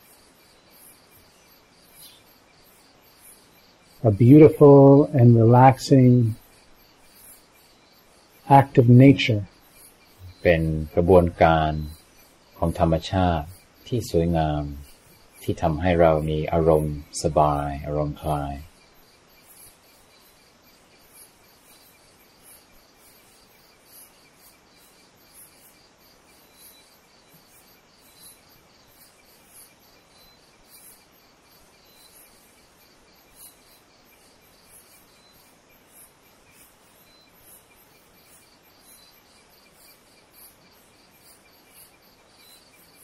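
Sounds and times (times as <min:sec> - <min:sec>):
crickets and insects chirring: 0:00.0 - 0:43.0
soft hiss: 0:00.0 - 0:43.0.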